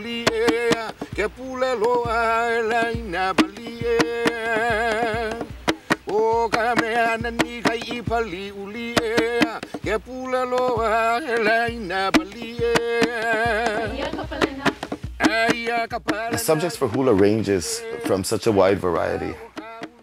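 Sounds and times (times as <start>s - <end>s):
sharp percussion strikes: 0.0s - 20.0s.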